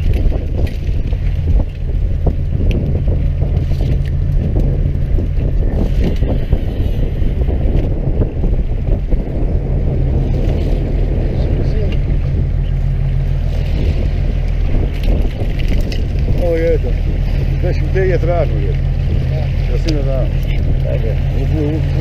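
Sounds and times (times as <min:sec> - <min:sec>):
boat engine running: 0:00.0 - 0:22.0
wind on microphone: 0:00.0 - 0:22.0.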